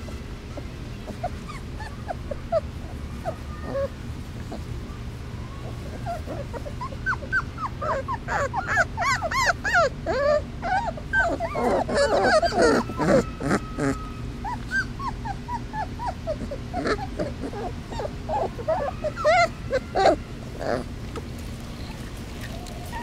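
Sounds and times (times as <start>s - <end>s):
puppies whimpering: 0.0s - 23.0s.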